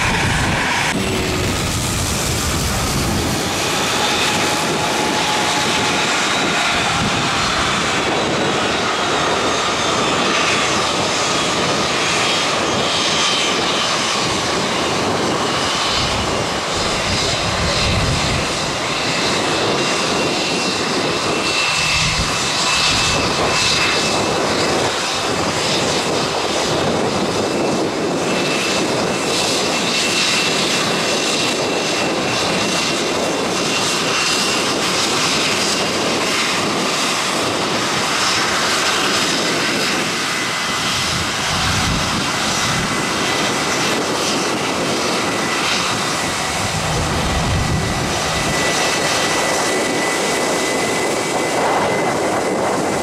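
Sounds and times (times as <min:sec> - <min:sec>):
aircraft engines running: 0:00.0 - 0:53.0.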